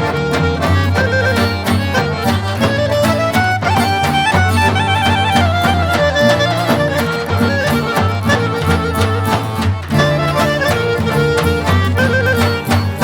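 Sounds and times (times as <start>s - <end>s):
accordion: 0.0s - 13.0s
folk dance music: 0.0s - 13.0s
violin: 0.0s - 13.0s.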